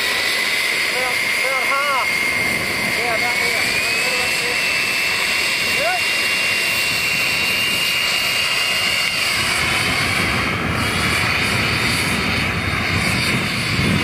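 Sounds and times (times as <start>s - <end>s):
model jet turbine whine: 0.0s - 14.0s.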